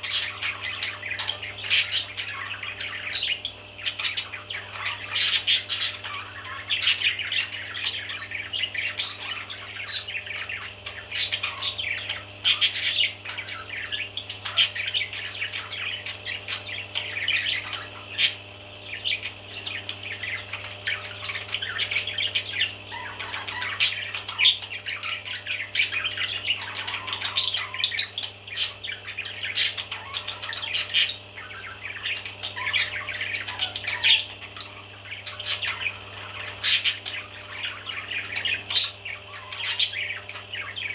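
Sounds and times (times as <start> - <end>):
baby parrots chirping and squawking: 0.0 - 40.9
steady low hum: 0.0 - 40.9.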